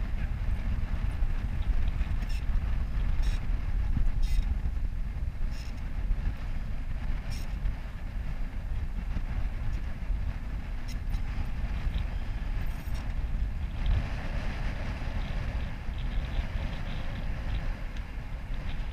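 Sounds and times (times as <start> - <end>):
wind rumbling on microphone: 0.0 - 18.9.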